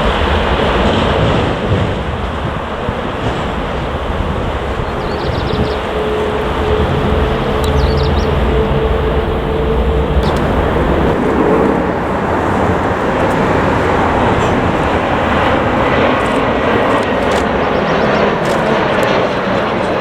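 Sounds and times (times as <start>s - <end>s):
jet engines running: 0.0s - 20.0s
steady engine whine: 0.0s - 20.0s.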